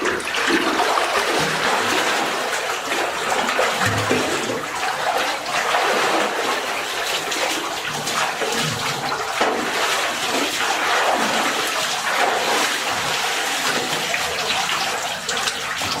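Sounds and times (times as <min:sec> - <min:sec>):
water pouring into pool: 0:00.0 - 0:16.0.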